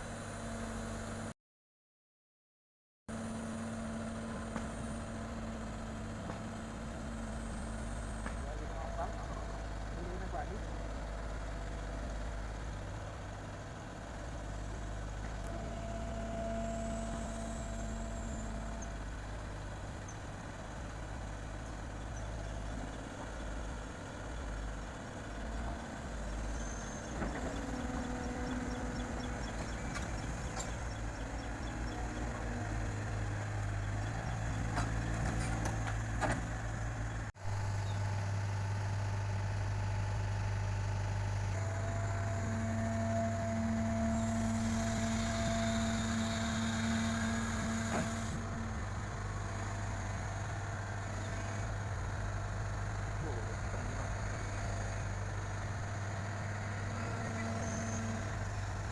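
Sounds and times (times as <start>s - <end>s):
heavy machinery diesel engines running: 0.0s - 1.3s, 3.1s - 58.9s.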